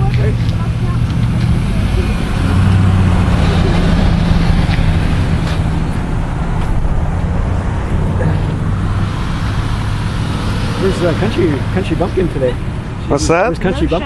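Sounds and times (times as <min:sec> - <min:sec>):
road traffic noise: 0:00.0 - 0:14.0
vehicle engine running: 0:00.0 - 0:14.0.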